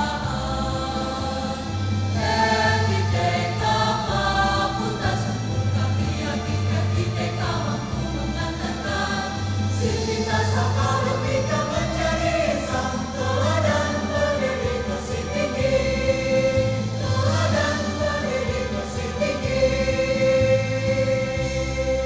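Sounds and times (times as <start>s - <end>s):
instrumental accompaniment low notes: 0.0s - 22.0s
women's choir singing: 0.0s - 22.0s.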